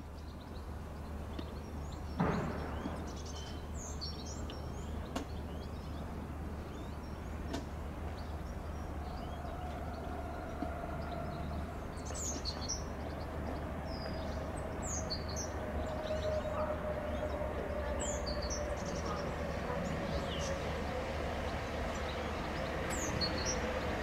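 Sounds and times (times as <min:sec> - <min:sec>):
small birds chirping: 0:00.2 - 0:24.0.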